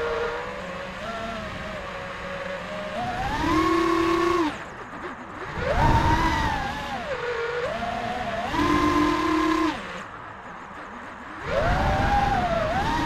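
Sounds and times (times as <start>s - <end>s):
drone motors whining: 0.0s - 13.0s
low rush of wind: 0.0s - 13.0s.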